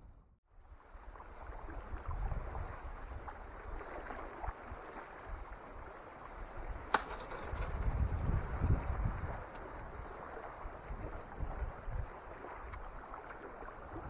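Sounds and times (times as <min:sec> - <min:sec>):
wind rumbling on microphone: 0:00.0 - 0:14.0
water lapping against a canoe: 0:00.8 - 0:06.9, 0:07.7 - 0:14.0.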